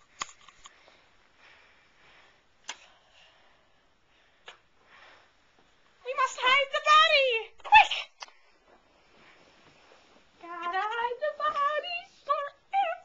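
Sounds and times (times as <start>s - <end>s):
faint fabric rustling: 0.5s - 13.0s.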